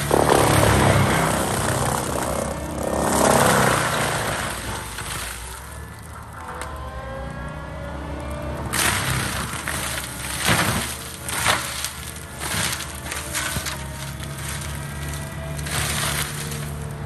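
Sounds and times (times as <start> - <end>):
forestry mulcher whining: 0.0 - 17.0
wood grinding and splintering: 0.0 - 17.0.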